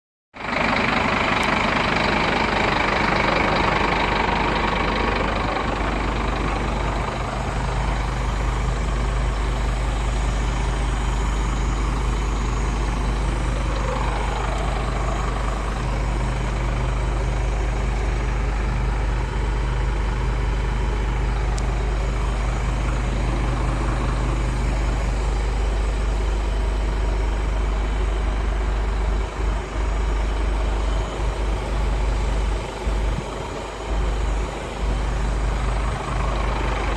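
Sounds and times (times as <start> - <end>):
truck diesel engine running: 0.3 - 36.9
high-pitched mechanical noise: 0.4 - 36.9.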